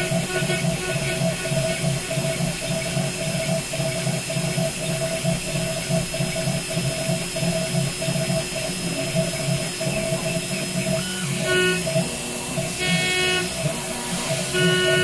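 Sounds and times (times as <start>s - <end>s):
router spindle milling metal: 0.0s - 15.0s.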